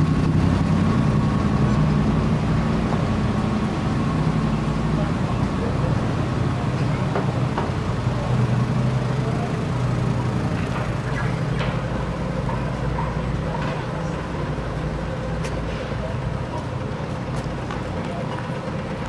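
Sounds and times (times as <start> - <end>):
street traffic: 0.0 - 19.0
vehicle engine hum: 0.0 - 19.0.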